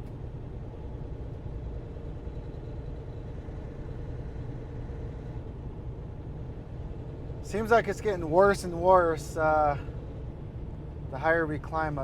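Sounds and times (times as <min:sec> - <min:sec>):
diesel truck engine drone: 0:00.0 - 0:12.0.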